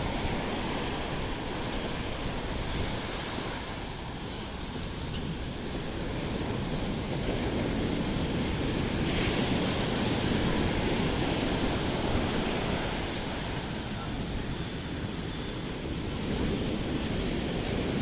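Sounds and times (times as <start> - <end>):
sea waves breaking: 0.0 - 18.0
wind rumbling on microphone: 0.0 - 18.0.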